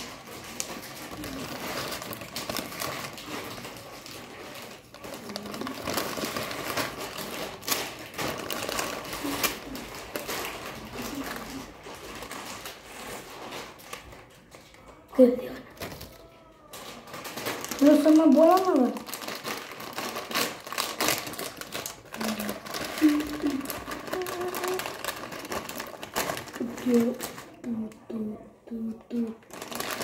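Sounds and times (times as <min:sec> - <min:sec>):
plastic packet crinkling: 0:00.0 - 0:28.1, 0:29.0 - 0:30.0.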